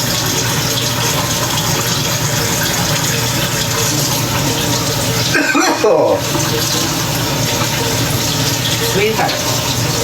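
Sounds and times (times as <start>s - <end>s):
faucet running: 0.0s - 10.0s.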